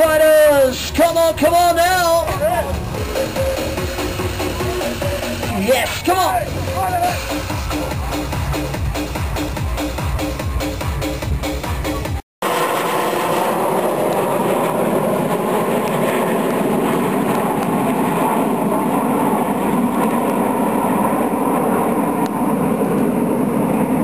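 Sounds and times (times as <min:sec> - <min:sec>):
jet engines flying overhead: 0:00.0 - 0:10.6, 0:11.5 - 0:24.0.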